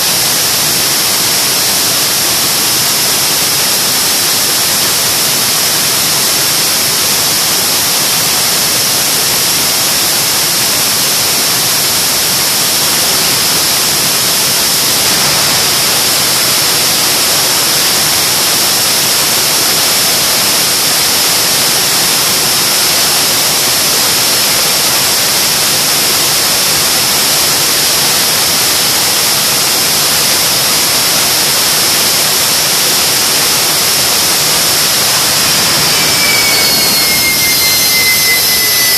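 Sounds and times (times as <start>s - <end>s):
jet engine roaring with whine: 0.0s - 38.9s.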